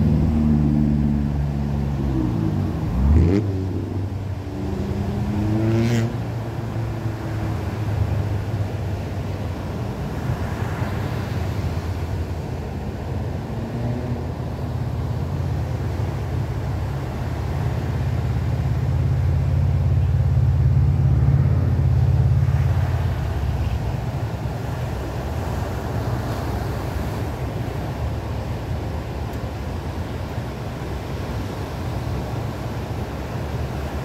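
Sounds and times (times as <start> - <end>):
ocean surf rumbling: 0.0 - 34.0.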